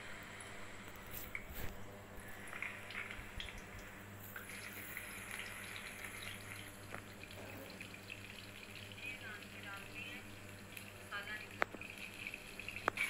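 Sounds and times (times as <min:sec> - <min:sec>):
fish frying in oil: 0:02.3 - 0:13.0.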